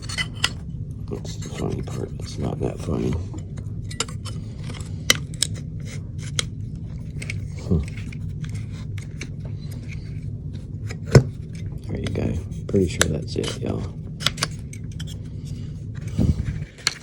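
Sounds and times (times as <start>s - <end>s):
steady low hum: 0.0s - 17.0s
plastic and metal parts clicking: 1.2s - 17.0s.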